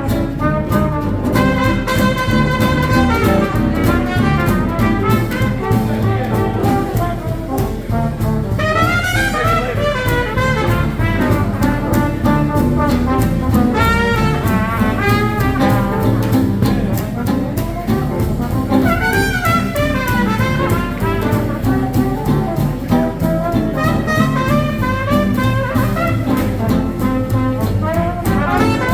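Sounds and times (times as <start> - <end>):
brass horn solo: 0.0 - 28.9
swing jazz band playing: 0.0 - 28.9.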